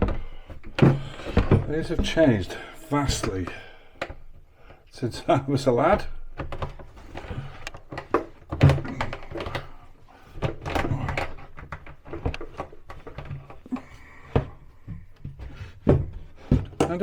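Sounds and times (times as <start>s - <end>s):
cabinet door and hinges clattering: 0.0s - 4.3s, 5.7s - 17.0s.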